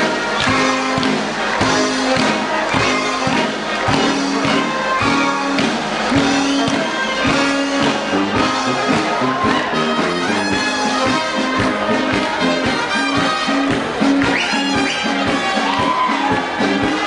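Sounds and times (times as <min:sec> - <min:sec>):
upbeat brass music: 0:00.0 - 0:17.0.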